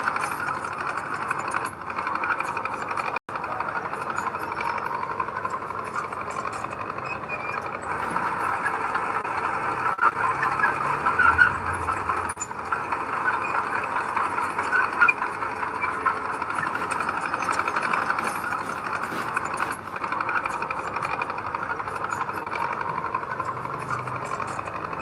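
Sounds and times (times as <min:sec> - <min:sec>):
diesel machinery engine clattering: 0:00.0 - 0:25.0.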